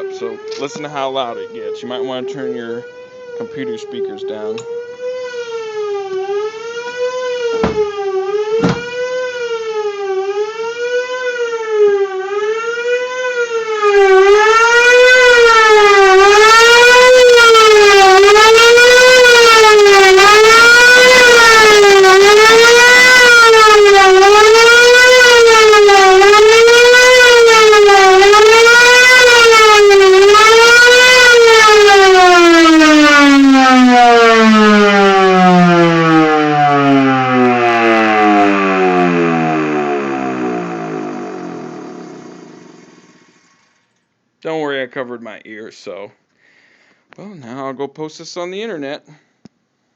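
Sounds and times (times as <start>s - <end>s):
rising and falling siren: 0.0s - 43.5s.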